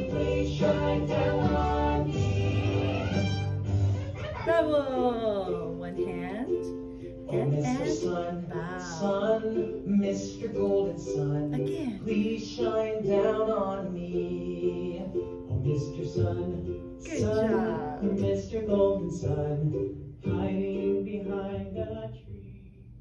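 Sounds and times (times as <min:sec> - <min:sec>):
children's song over speaker: 0:00.0 - 0:03.4, 0:07.3 - 0:22.4.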